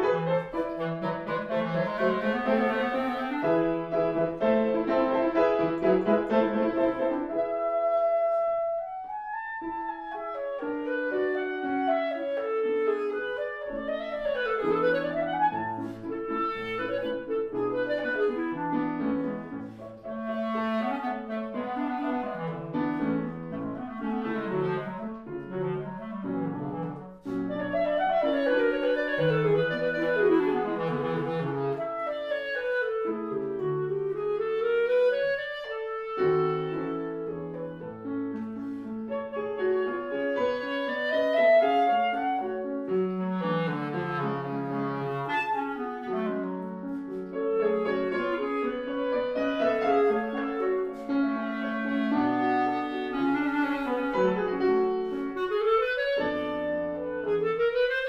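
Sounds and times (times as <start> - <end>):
clarinet melody: 0.0 - 58.0
piano accompaniment: 0.0 - 58.0.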